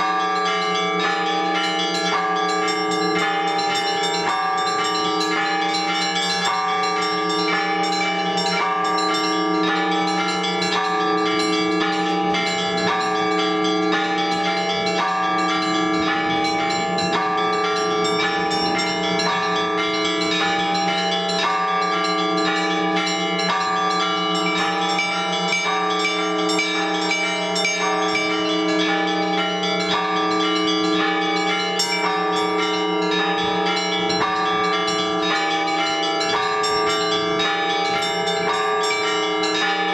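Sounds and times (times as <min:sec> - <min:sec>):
church bells ringing: 0:00.0 - 0:39.9
low hum of large bell: 0:00.0 - 0:39.9.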